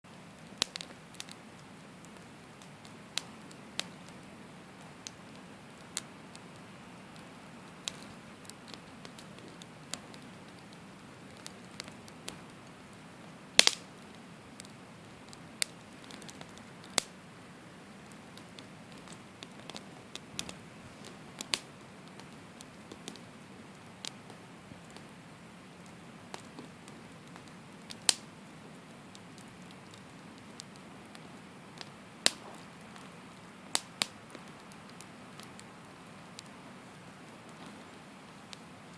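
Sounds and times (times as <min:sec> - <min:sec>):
campfire crackling: 0:00.1 - 0:38.9.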